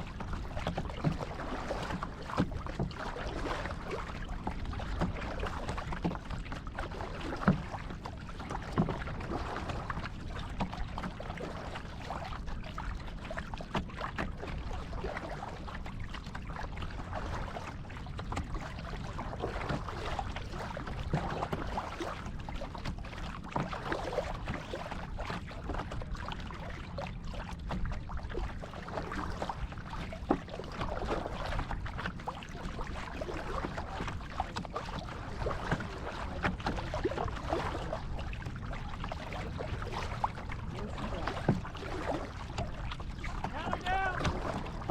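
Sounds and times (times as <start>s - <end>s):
paddle splashing in water: 0.0s - 44.9s.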